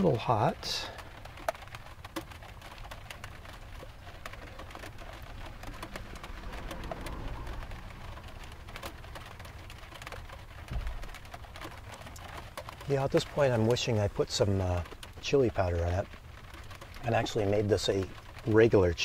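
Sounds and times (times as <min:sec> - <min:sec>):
city traffic rumble: 0:00.0 - 0:19.0
rain on metal roof: 0:00.0 - 0:19.0.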